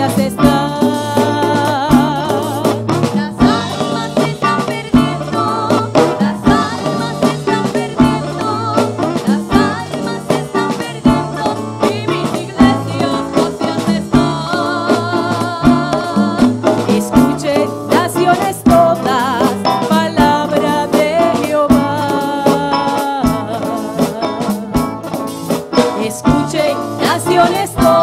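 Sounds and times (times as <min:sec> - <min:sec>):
voices singing: 0:00.0 - 0:24.6, 0:25.8 - 0:28.0
band playing latin-rhythm hymn: 0:00.0 - 0:28.0
drum kit beat: 0:00.0 - 0:28.0.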